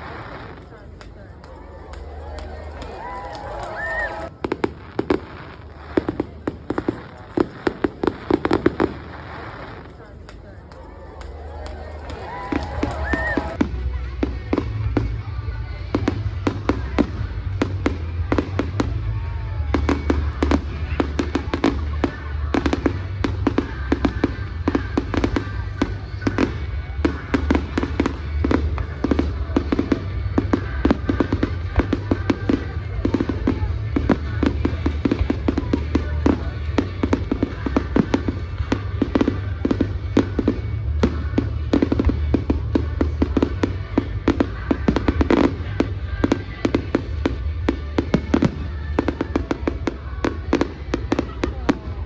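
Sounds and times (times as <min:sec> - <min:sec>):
music playing: 0:00.0 - 0:04.3, 0:06.8 - 0:52.0
fireworks bangs and crackles: 0:00.0 - 0:52.0.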